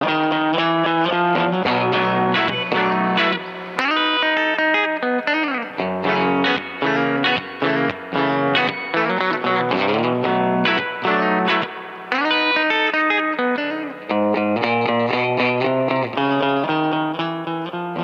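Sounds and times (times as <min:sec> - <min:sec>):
country electric guitar picking: 0:00.0 - 0:18.0.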